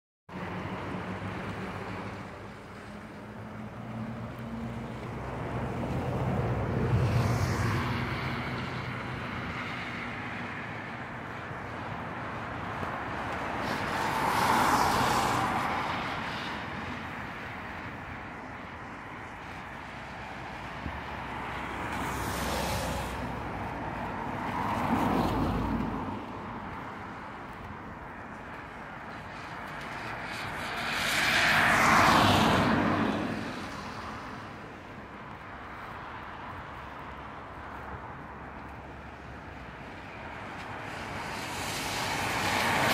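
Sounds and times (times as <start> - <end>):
cars passing on wet road: 0.3 - 42.9.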